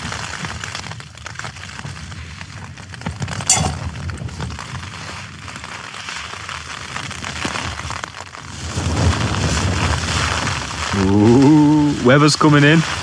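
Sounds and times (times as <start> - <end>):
tent fabric flapping: 0.0 - 13.0.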